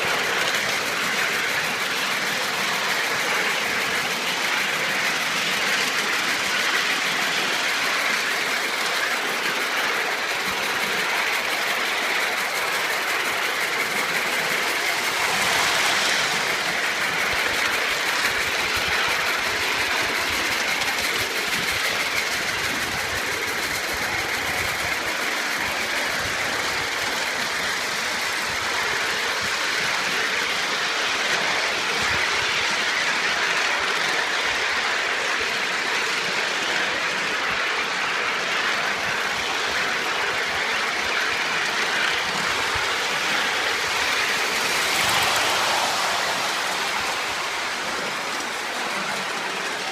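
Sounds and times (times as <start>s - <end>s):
miniature steam train running: 0.0s - 49.9s.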